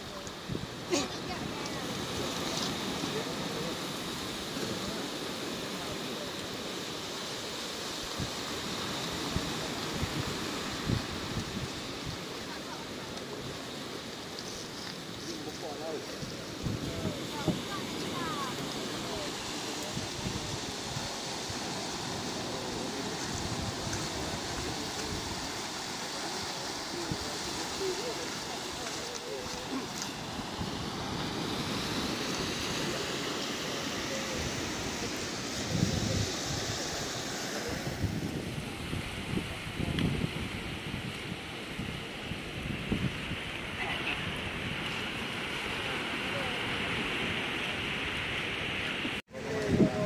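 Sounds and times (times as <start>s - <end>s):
surf breaking on beach: 0.0s - 50.0s
wind: 0.0s - 50.0s.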